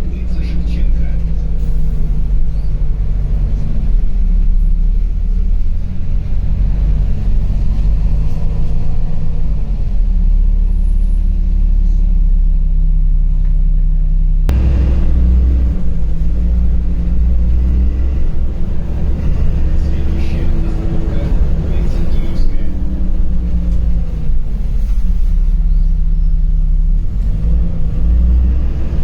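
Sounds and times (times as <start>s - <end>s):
bus engine hum: 0.0s - 29.0s
road rumble: 0.0s - 29.0s.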